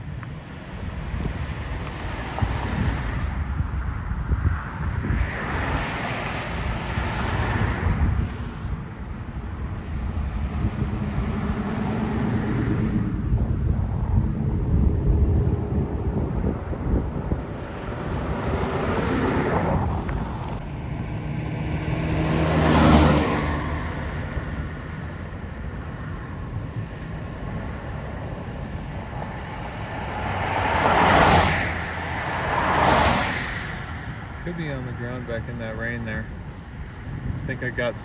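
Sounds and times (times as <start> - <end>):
low vehicle rumble: 0.0 - 38.0
vehicles swishing past: 0.0 - 38.0.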